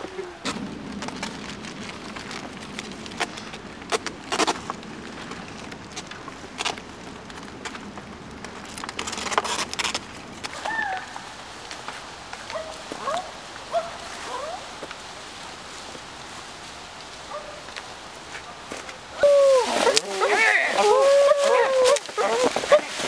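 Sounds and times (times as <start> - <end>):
rustling on dry leaves: 0.0 - 23.0.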